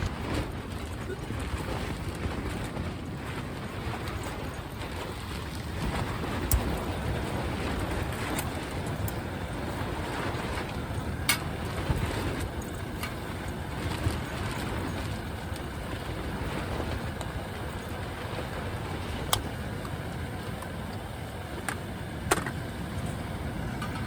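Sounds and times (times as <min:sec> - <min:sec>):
strong wind gusting: 0:00.0 - 0:24.0.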